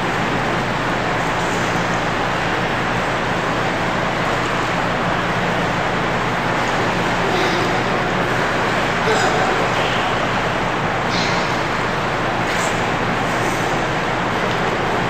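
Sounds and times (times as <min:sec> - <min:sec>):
swimming pool hall rushing noise: 0:00.0 - 0:15.0.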